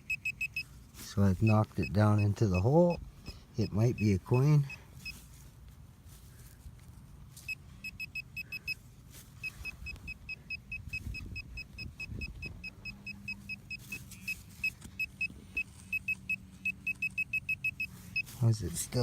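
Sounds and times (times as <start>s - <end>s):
metal detector high beeps: 0.0s - 3.0s, 3.6s - 5.2s, 7.4s - 8.8s, 9.4s - 19.0s.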